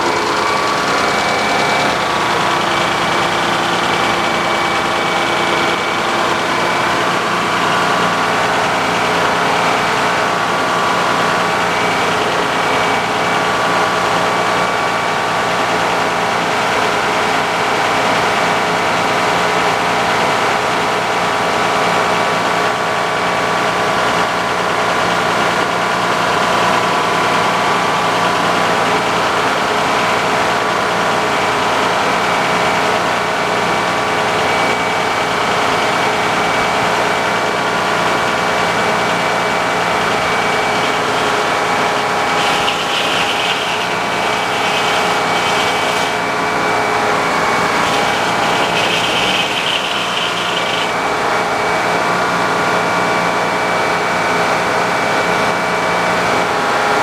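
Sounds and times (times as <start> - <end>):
sawmill engine running: 0.0 - 22.4, 23.4 - 53.5.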